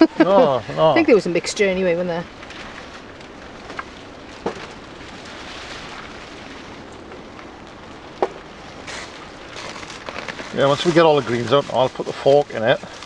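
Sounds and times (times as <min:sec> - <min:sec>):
rain on plastic cover: 0:01.0 - 0:13.0.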